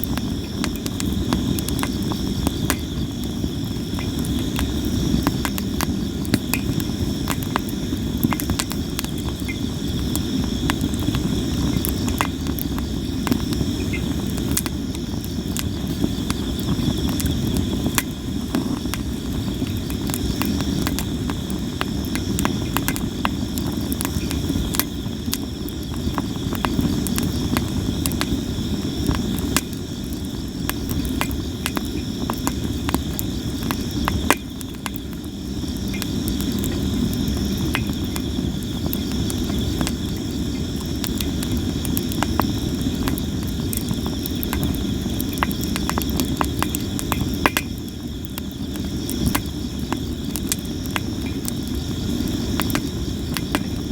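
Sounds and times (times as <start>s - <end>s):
campfire crackling and popping: 0.0s - 53.9s
crickets chirping: 0.0s - 53.9s.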